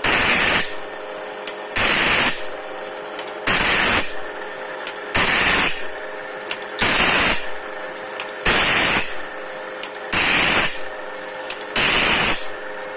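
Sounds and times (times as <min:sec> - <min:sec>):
motor humming: 0:00.0 - 0:12.9.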